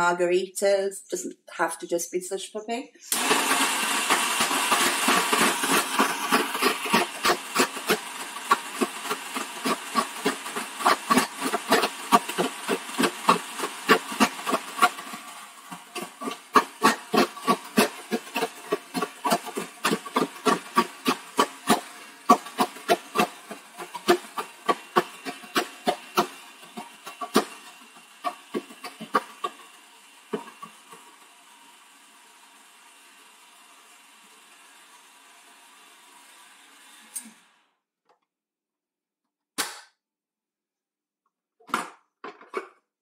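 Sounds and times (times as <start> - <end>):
slushie machine grinding ice: 3.1 - 37.8.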